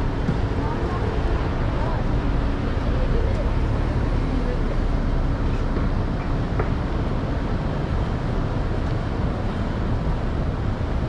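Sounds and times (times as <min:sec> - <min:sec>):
street hubbub: 0:00.0 - 0:11.0.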